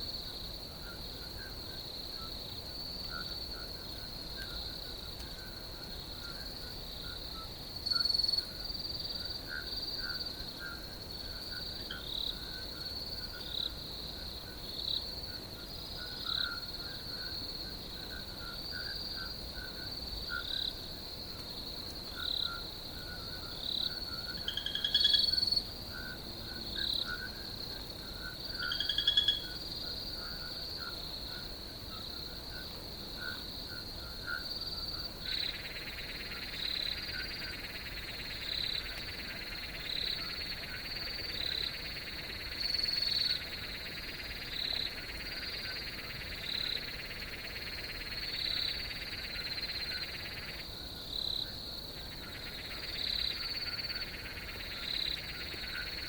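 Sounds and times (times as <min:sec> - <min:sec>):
crickets trilling: 0:00.0 - 0:56.0
short insect chirping calls: 0:00.9 - 0:56.0.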